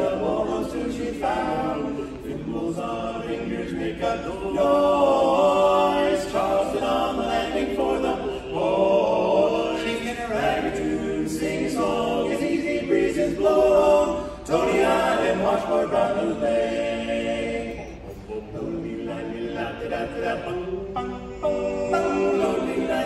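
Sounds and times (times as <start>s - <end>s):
group singing in close harmony: 0.0s - 23.0s.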